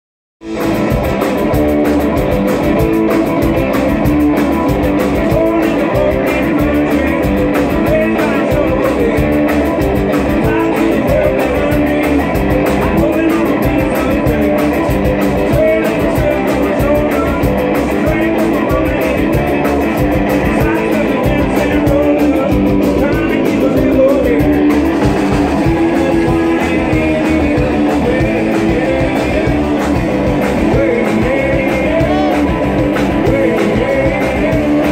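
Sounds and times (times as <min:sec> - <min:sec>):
drum kit beat: 0:00.4 - 0:34.9
electric guitar: 0:00.4 - 0:34.9
upright double bass: 0:00.4 - 0:34.9.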